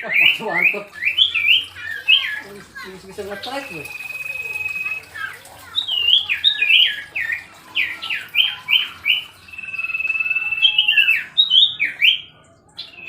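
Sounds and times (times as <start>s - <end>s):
bird singing whistled song: 0.0s - 2.4s, 3.4s - 13.0s.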